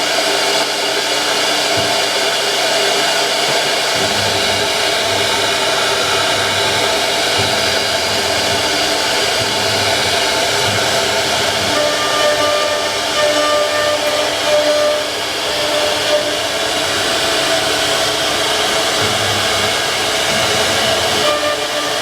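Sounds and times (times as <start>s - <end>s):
router spindle whining while cutting wood: 0.2s - 22.0s.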